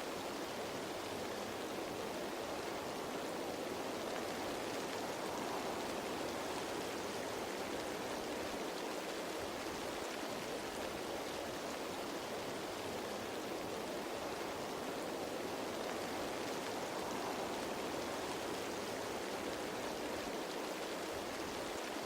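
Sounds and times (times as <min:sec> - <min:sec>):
rain falling on leaves: 0:00.0 - 0:22.0.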